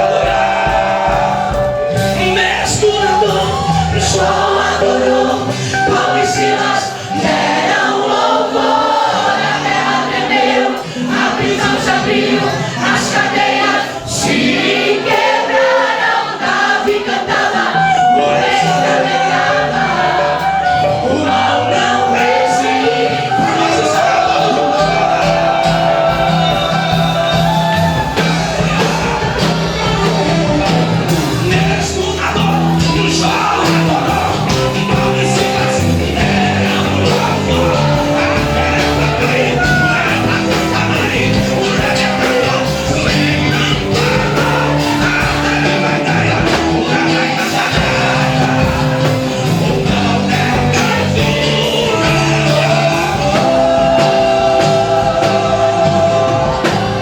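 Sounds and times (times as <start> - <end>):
bass line: 0.0 - 57.0
gospel band music: 0.0 - 57.0
loud singing: 0.0 - 57.0.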